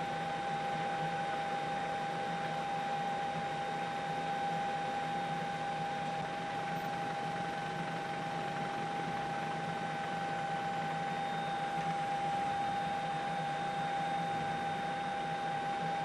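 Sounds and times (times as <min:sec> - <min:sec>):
constant high whine: 0:00.0 - 0:16.0.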